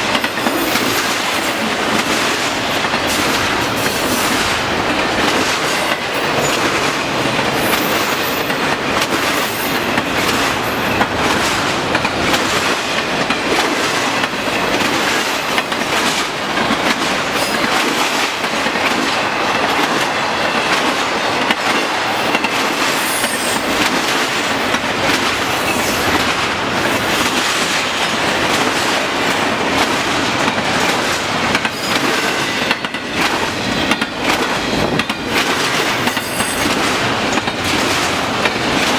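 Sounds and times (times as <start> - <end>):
train wheels rolling on rails: 0.0 - 38.9
wheels clickety-clack over joints: 0.0 - 38.9.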